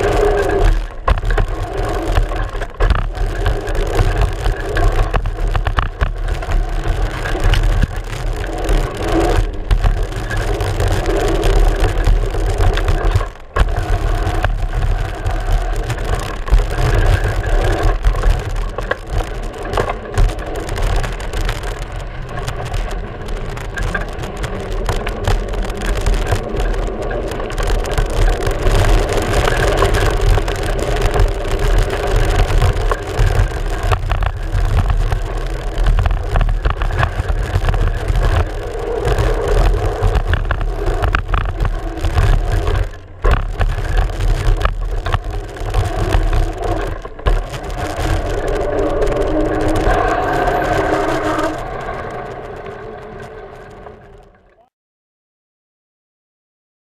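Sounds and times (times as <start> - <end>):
bike rattling over rough ground: 0.0 - 54.7
wind and tyres rumbling: 0.0 - 54.7.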